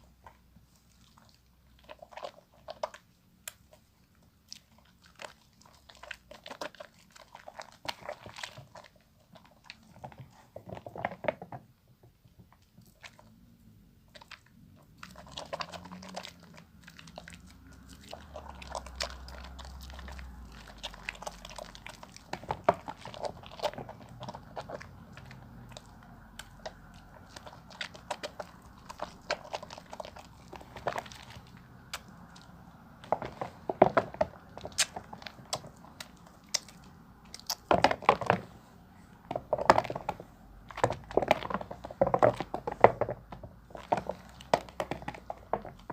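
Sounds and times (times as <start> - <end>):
soap lather squishing: 0.0 - 11.3, 12.5 - 13.4, 14.0 - 45.9.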